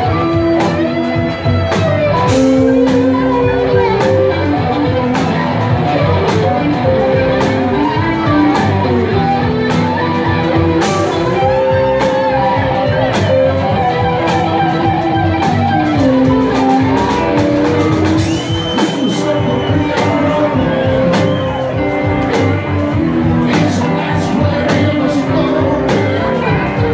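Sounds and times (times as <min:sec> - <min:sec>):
bass: 0:00.0 - 0:26.9
drum kit: 0:00.0 - 0:26.9
electric guitars: 0:00.0 - 0:26.9.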